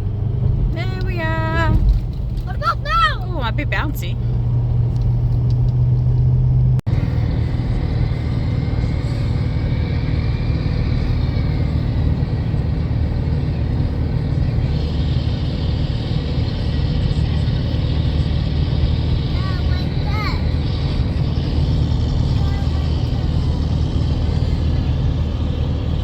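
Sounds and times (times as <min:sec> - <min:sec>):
car road rumble from inside: 0:00.0 - 0:26.0.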